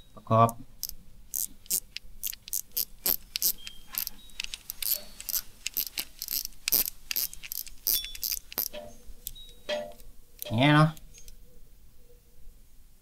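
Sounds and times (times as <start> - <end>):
small metallic clicks and taps: 0.8 - 11.4.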